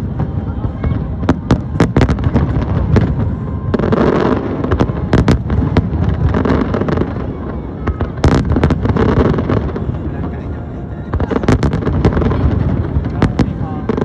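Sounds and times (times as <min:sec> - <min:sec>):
fireworks cracks and bangs: 0:00.0 - 0:14.0
fireworks rumbling: 0:00.0 - 0:14.0.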